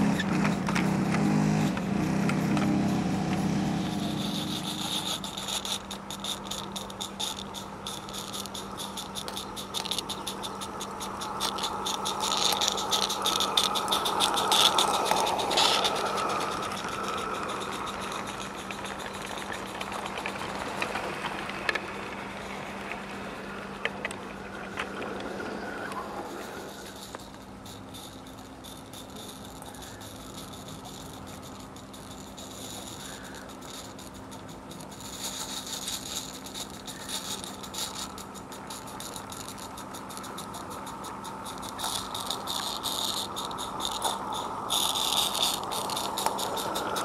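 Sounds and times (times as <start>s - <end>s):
train wheels clicking on track: 0.0s - 47.0s.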